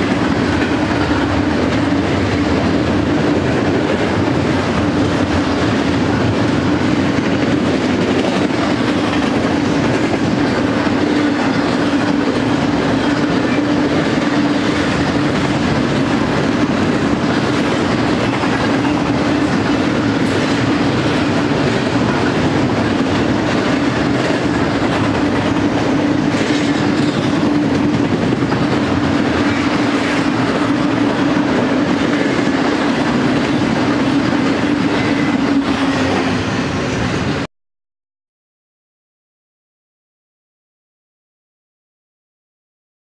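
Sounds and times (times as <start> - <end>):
train wheels rumbling on track: 0.0 - 37.5.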